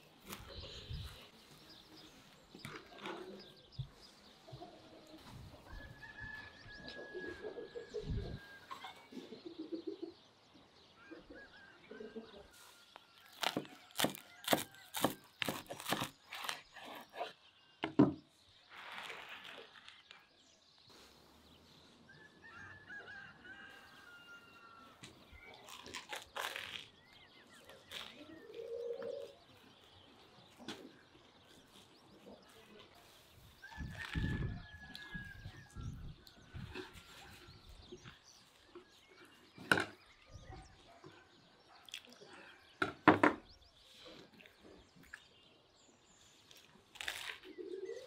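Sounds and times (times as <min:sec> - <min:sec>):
birds calling: 0:00.0 - 0:48.0.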